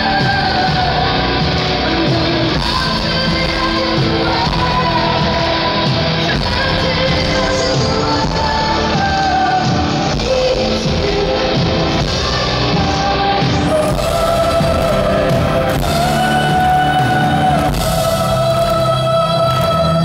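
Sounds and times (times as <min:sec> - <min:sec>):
live metal band playing: 0:00.0 - 0:20.0.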